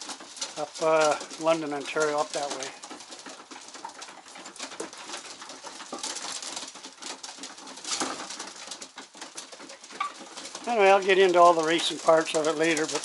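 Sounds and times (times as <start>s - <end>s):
clicks and scuffs: 0.0s - 13.0s
rustles: 0.0s - 13.0s.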